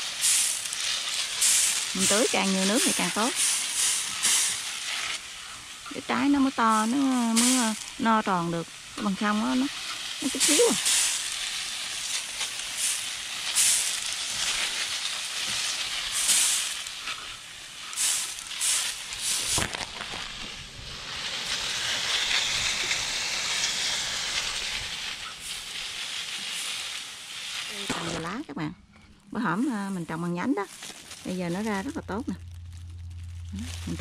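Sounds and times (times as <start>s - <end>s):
water spattering: 0.0s - 28.5s
water spray hissing on plants: 0.0s - 28.7s, 29.3s - 32.5s, 33.2s - 34.0s.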